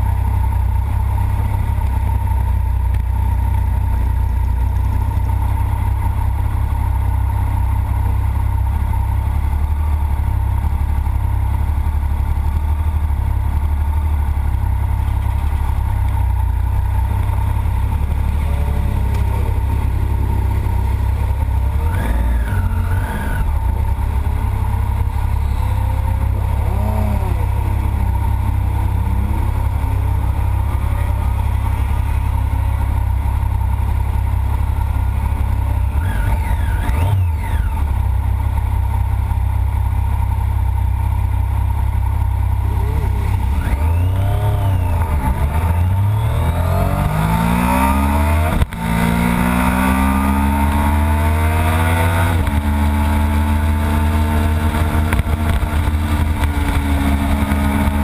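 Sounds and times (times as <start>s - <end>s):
motorcycle engine idling and accelerating: 0.0s - 58.0s.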